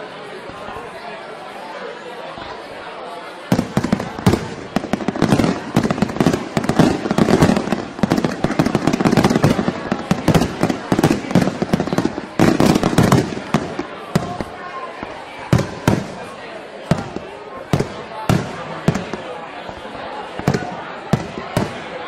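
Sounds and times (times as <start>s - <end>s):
fireworks bangs and crackles: 3.4s - 22.0s.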